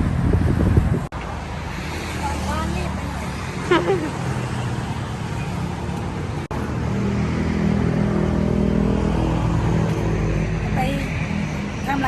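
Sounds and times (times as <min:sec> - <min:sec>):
road traffic noise: 0:00.0 - 0:12.0
vehicle engine running close: 0:00.0 - 0:12.0.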